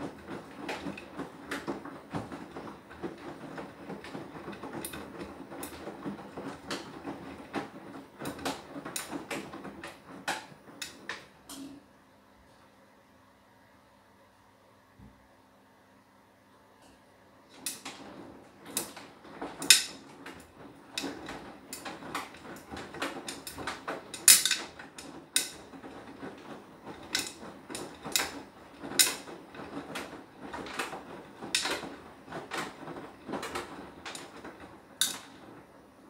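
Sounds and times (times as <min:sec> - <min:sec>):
sharp clatters and knocks: 0:00.0 - 0:11.3, 0:17.5 - 0:35.7
washing machine drum tumbling: 0:00.0 - 0:11.9, 0:17.4 - 0:36.0.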